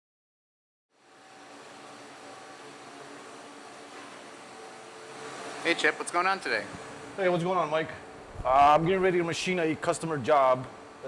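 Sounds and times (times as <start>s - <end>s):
machine shop hum: 0.9s - 11.0s.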